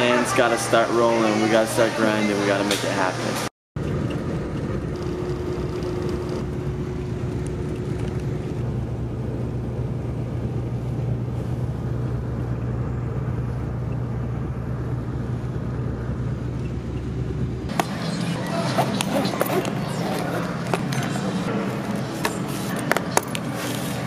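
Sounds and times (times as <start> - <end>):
coach engine and road drone: 0.0 - 24.0.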